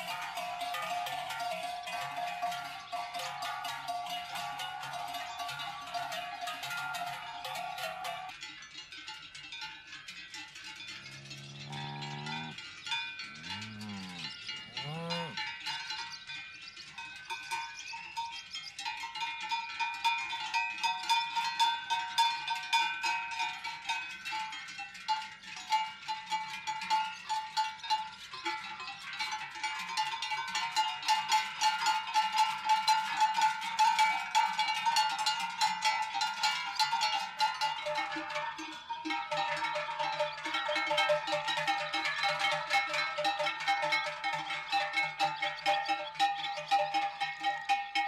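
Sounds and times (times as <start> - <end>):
cowbells clanking: 0.0 - 48.0.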